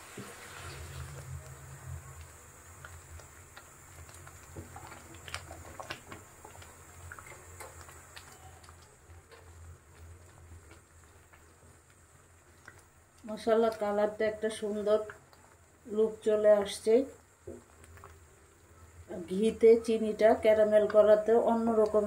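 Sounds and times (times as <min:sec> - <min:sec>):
bubbles popping in simmering pudding: 0:00.0 - 0:22.0.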